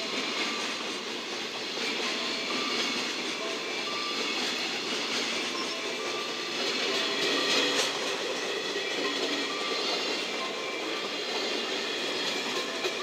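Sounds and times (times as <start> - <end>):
freight wagons rolling on rails: 0.0 - 13.0.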